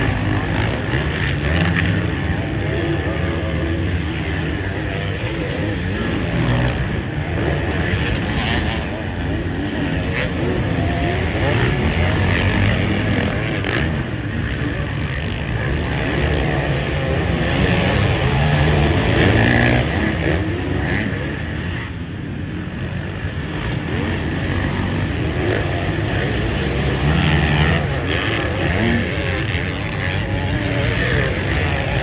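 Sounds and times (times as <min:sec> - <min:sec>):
constant noisy rush: 0:00.0 - 0:32.0
dirt bike engines revving: 0:00.0 - 0:32.0.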